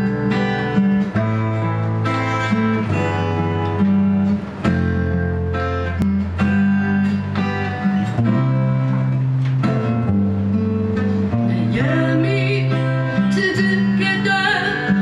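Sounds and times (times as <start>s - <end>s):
acoustic guitar strumming chords: 0.0s - 15.0s
electric guitar playing: 0.0s - 15.0s.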